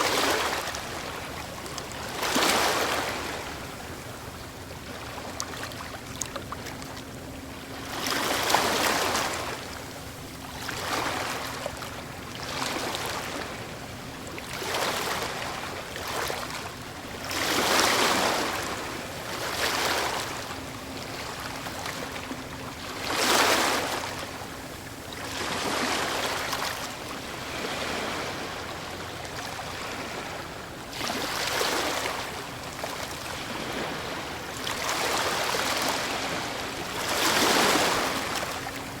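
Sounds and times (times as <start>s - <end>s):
distant boat hum: 0.0s - 39.0s
waves breaking on a stony shore: 0.0s - 39.0s.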